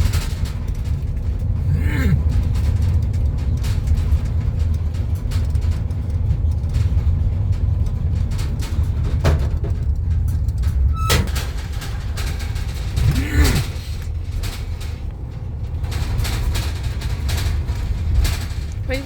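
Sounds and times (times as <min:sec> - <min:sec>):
car road noise rumble: 0:00.0 - 0:19.0
loose items rattling: 0:00.0 - 0:19.0.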